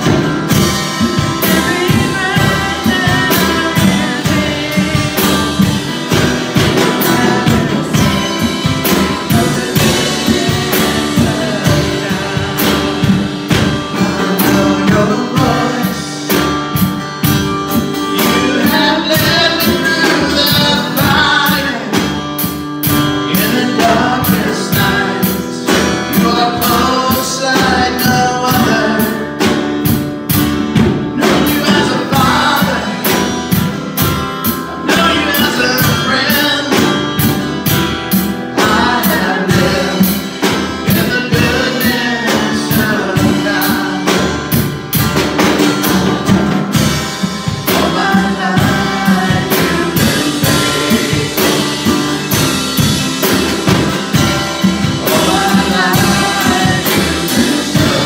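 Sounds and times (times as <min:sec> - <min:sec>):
people singing: 0:00.0 - 0:30.0, 0:30.8 - 0:58.0
acoustic guitar: 0:00.0 - 0:58.0
drum kit with cymbals: 0:00.0 - 0:58.0.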